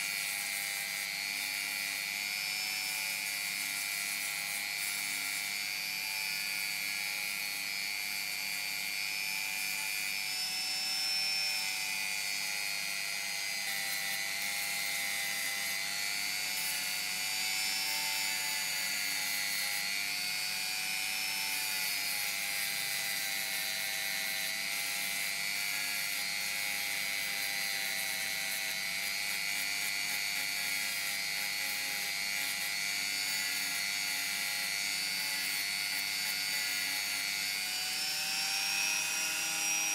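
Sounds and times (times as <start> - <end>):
rotary tool sanding wood: 0.0 - 39.9.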